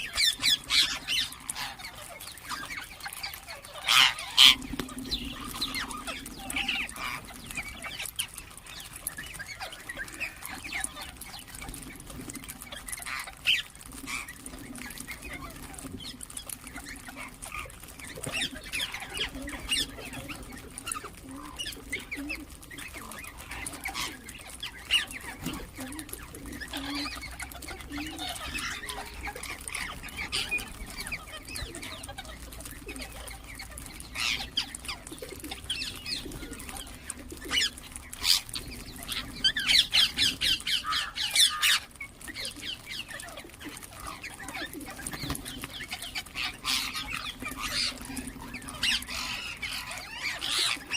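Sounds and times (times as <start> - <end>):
parakeets chirping and calling: 0.0 - 50.9.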